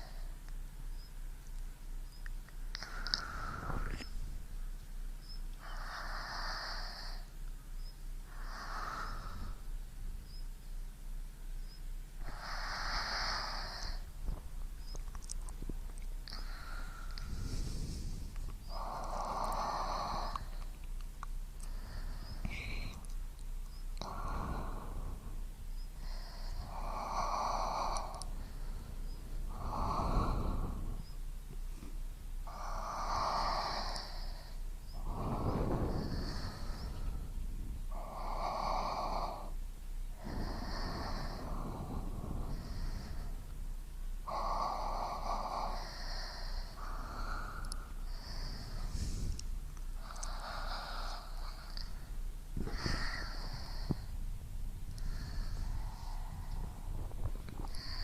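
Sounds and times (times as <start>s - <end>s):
person breathing noisily: 2.7s - 4.4s, 5.6s - 7.4s, 8.2s - 9.8s, 12.2s - 14.5s, 16.2s - 20.8s, 21.5s - 43.6s, 44.2s - 58.0s.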